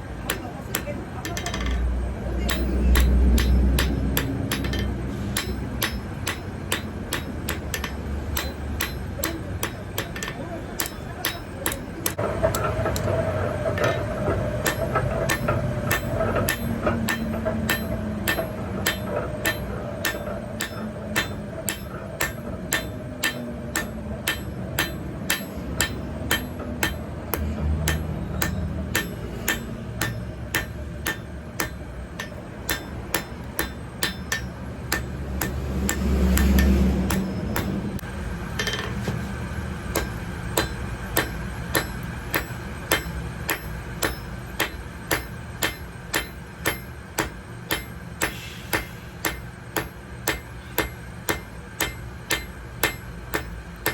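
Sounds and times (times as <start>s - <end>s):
hammer striking metal on anvil: 0.2s - 39.2s, 39.8s - 53.9s.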